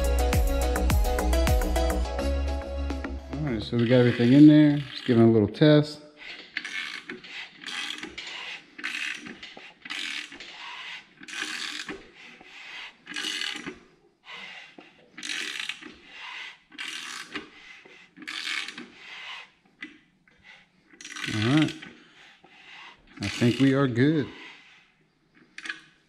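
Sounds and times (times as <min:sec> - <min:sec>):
engine turned by hand rubbing: 0:03.1 - 0:26.0.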